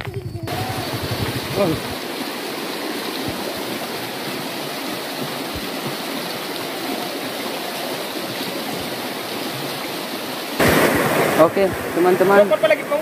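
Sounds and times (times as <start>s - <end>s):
river rushing over stones: 0.5s - 13.0s.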